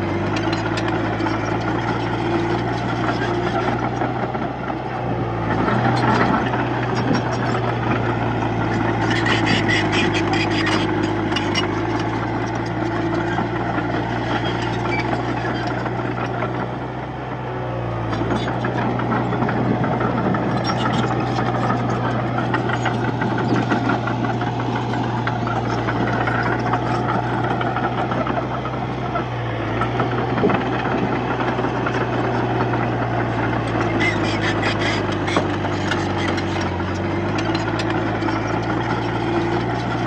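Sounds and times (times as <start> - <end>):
bulldozer diesel engine under load: 0.0 - 40.0.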